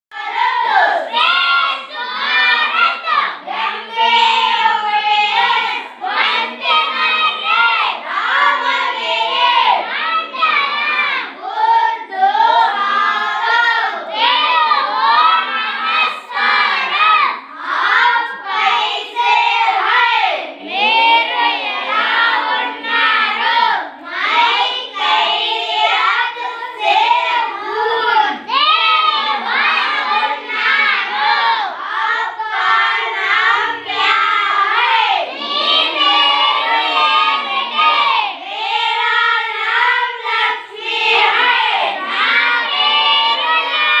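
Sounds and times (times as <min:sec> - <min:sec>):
children singing in unison: 0:00.1 - 0:44.0.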